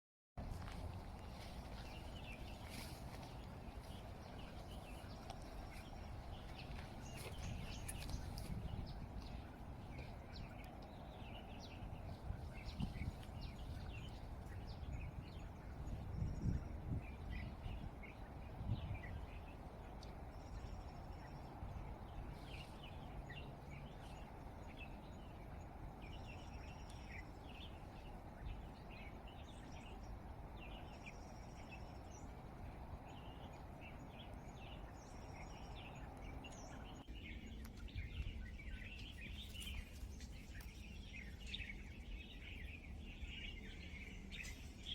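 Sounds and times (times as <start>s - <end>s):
small birds chirping: 0.4s - 44.9s
wind rumble: 0.4s - 44.9s.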